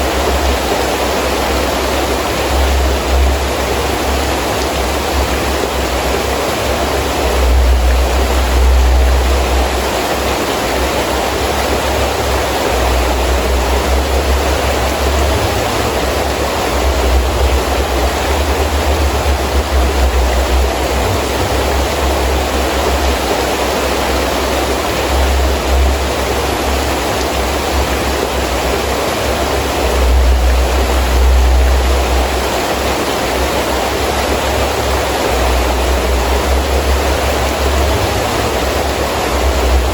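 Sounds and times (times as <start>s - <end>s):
deep wind rumble: 0.0s - 39.9s
heavy rain hissing: 0.0s - 39.9s.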